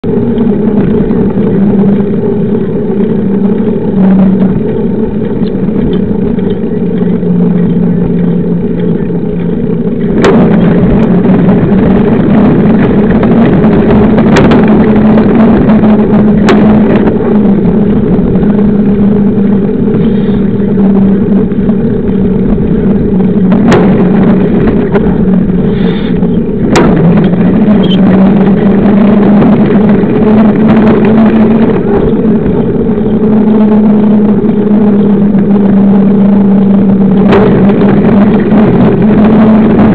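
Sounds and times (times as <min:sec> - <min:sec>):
bike tyre humming on asphalt: 0:00.0 - 0:39.9
wind rush on microphone: 0:00.0 - 0:39.9.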